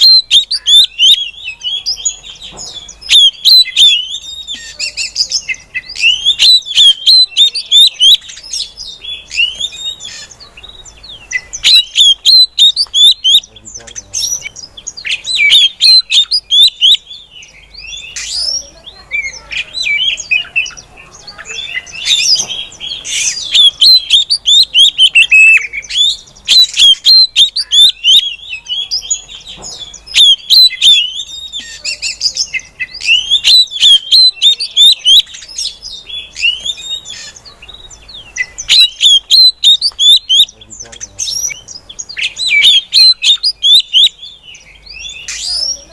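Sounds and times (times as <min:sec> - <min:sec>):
bird chirping in rapid bursts: 0:00.0 - 0:45.9.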